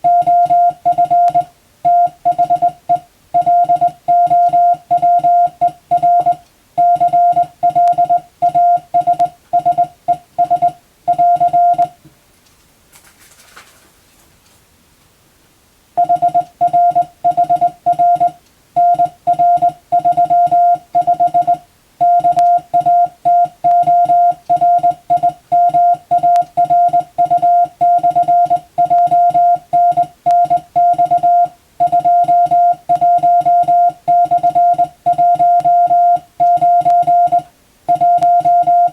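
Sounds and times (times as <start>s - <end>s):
morse code tone: 0.0s - 12.0s, 16.0s - 38.9s.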